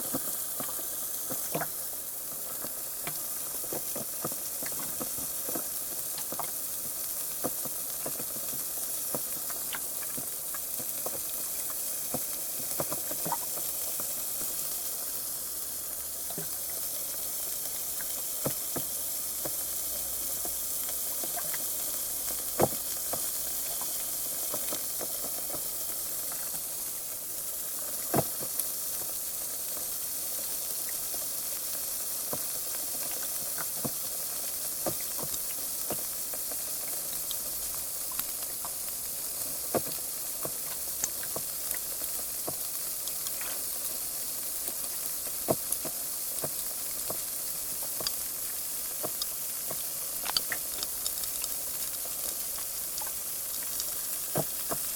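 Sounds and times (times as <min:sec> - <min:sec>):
carbonated water fizzing: 0:00.0 - 0:54.9.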